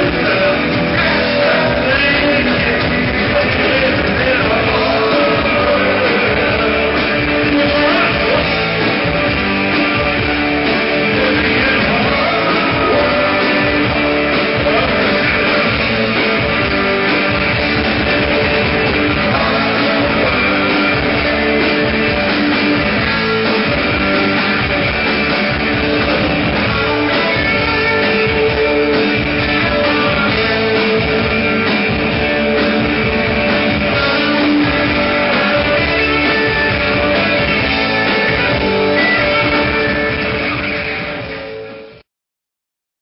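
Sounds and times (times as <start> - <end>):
live rock band playing: 0.0 - 42.0
strummed electric guitars: 0.0 - 42.0.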